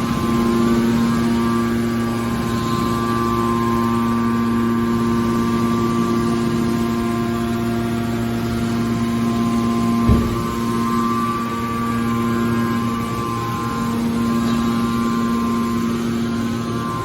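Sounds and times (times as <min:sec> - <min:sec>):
hydraulic baler motor humming: 0:00.0 - 0:17.0.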